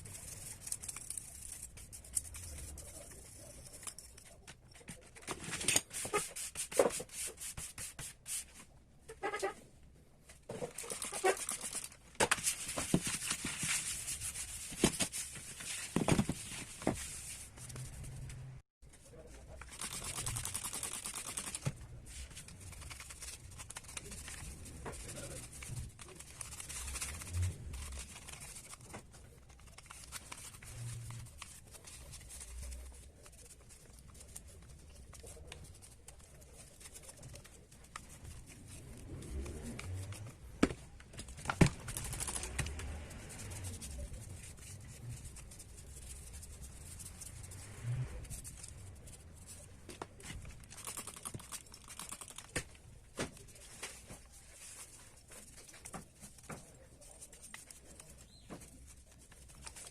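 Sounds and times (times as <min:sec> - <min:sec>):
rubbing and scraping: 0:00.0 - 0:09.7, 0:10.3 - 0:59.9.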